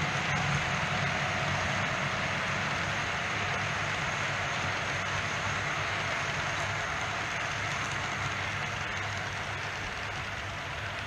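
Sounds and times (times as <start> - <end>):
model train wheels rumbling on rails: 0.0 - 11.0.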